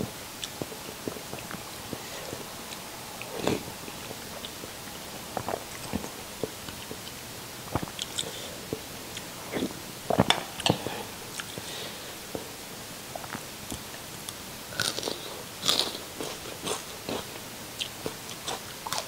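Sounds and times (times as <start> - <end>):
chewing with wet clicks: 0.4 - 2.0, 2.7 - 11.6, 13.2 - 19.0.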